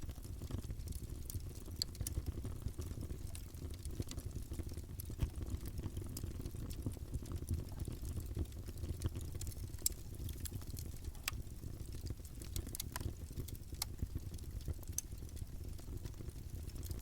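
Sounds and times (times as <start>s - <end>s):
rush of campfire flames: 0.0s - 17.0s
wood crackling and popping: 0.0s - 17.0s.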